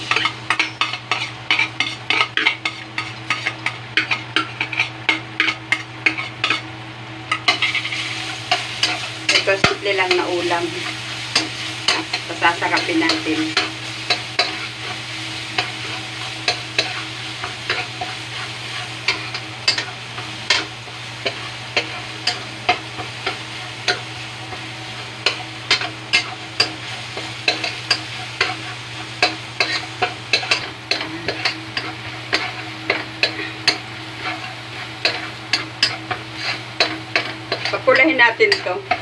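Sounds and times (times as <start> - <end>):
garlic sizzling in oil: 0.0 - 39.0
metal spatula scraping a wok: 0.1 - 6.7, 7.3 - 24.0, 24.9 - 39.0.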